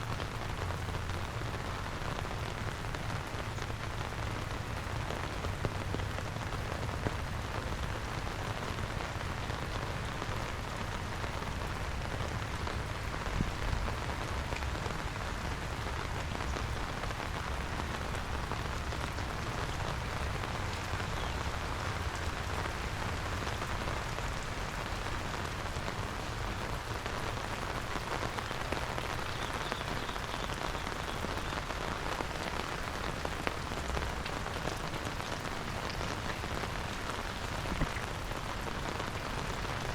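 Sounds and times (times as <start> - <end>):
raindrop ticks: 0.0 - 39.9
steady rain falling: 0.0 - 39.9.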